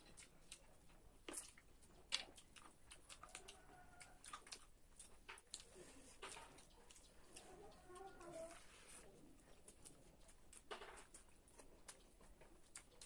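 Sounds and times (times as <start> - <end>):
fingers mixing food on a plate: 0.0 - 13.0
mouth chewing: 0.0 - 13.0.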